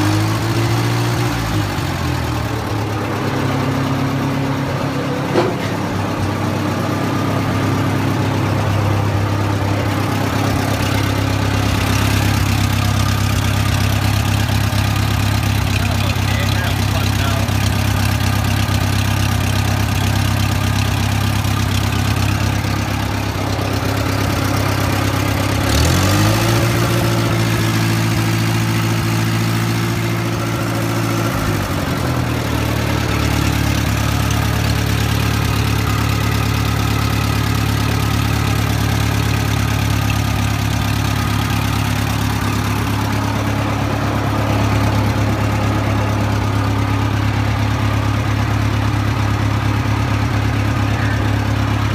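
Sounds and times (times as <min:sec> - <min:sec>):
engine idling and revving: 0:00.0 - 0:51.9.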